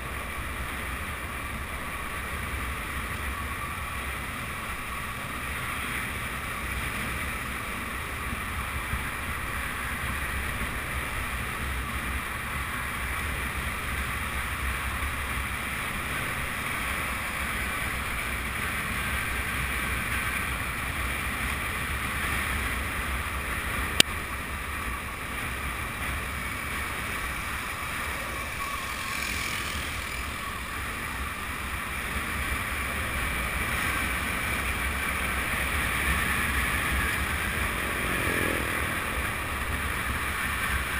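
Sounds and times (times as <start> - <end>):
longboard wheels rolling on asphalt: 0.0 - 40.9
rushing wind: 0.0 - 40.9.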